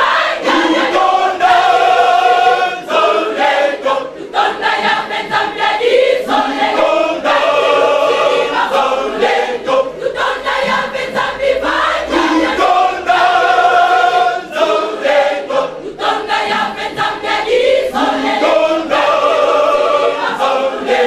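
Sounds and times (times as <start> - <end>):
church choir singing: 0.0 - 21.0.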